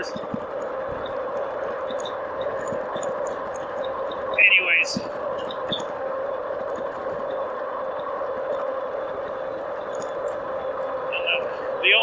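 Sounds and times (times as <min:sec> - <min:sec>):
electric bike motor hum: 0:00.0 - 0:12.0
road and wind noise: 0:00.0 - 0:12.0.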